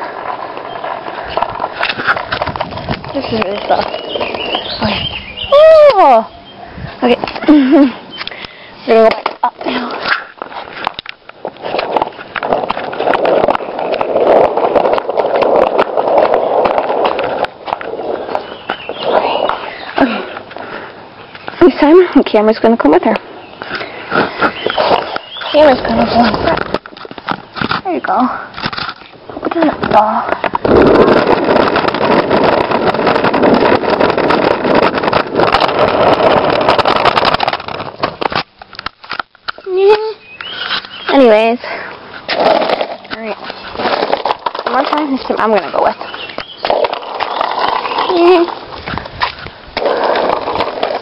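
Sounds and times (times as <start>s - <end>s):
toy wheels rolling on concrete: 0.0s - 51.0s.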